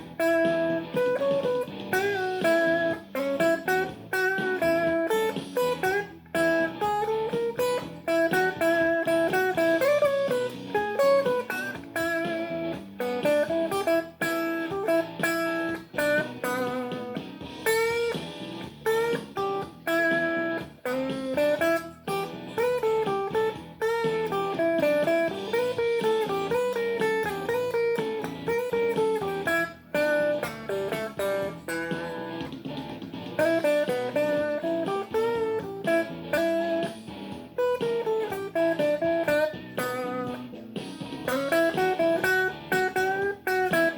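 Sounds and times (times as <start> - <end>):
blues guitar playing: 0.0 - 43.9.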